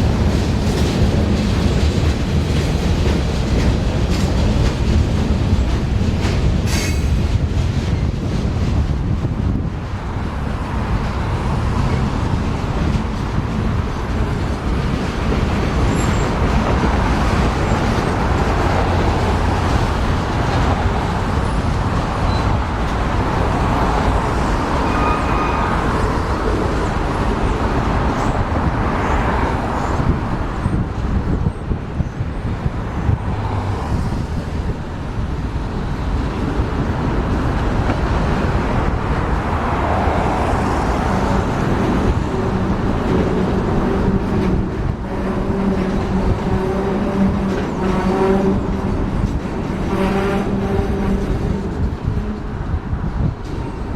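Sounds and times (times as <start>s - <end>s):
train rumbling past: 0.0s - 53.9s
wheel noise on rails: 0.0s - 53.9s.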